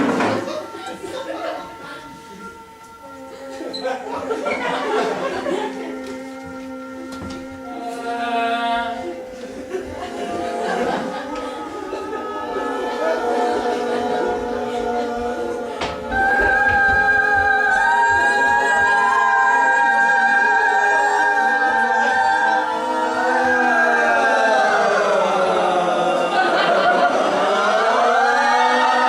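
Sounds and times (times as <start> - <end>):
voices singing a cappella: 0.0 - 29.0.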